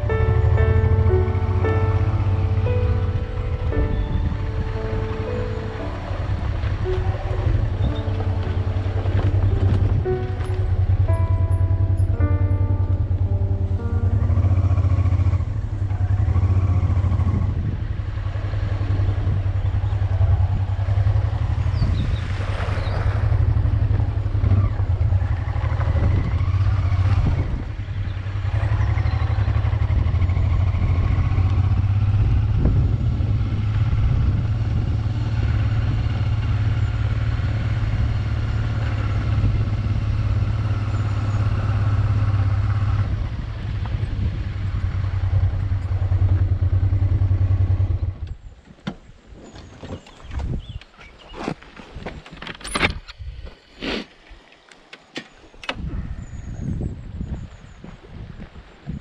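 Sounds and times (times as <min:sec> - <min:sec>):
motorcycle engine running: 0:00.0 - 0:48.5.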